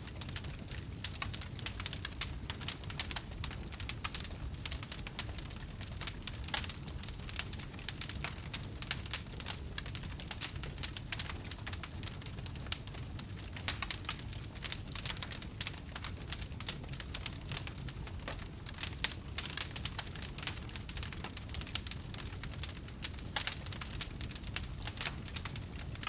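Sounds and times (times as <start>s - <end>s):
bonfire crackling: 0.0s - 26.0s.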